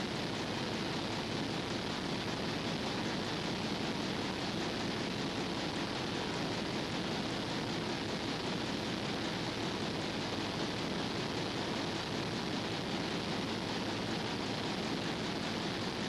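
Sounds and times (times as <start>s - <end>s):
steady recording hiss: 0.0s - 16.0s.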